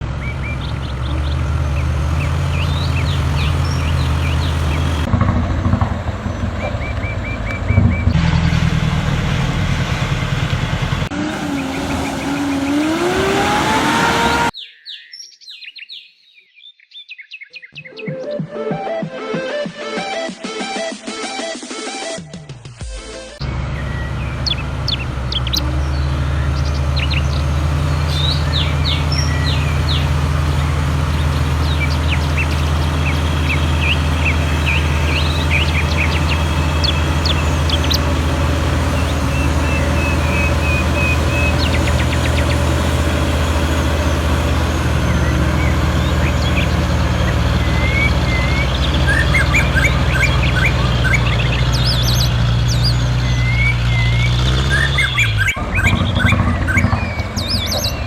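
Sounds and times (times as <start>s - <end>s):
birds chirping and whistling: 0.0s - 5.1s, 6.3s - 8.8s, 9.9s - 19.2s, 23.4s - 58.0s.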